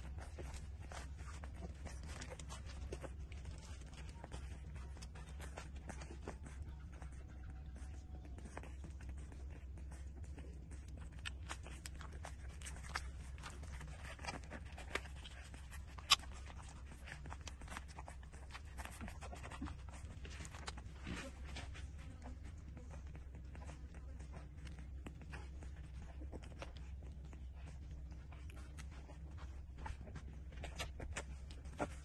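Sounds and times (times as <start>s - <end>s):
puppies suckling: 0.0s - 32.0s.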